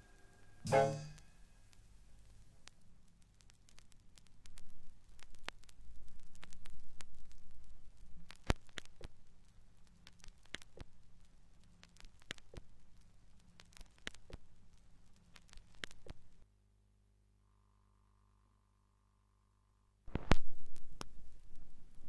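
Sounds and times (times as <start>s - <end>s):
vinyl crackle and clicks: 0.0s - 16.5s, 20.0s - 22.0s.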